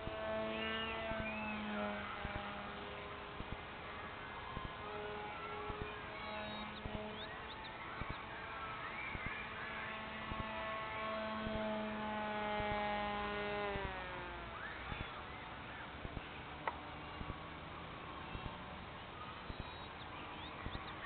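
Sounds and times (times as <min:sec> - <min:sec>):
model plane motor humming: 0:00.0 - 0:21.0.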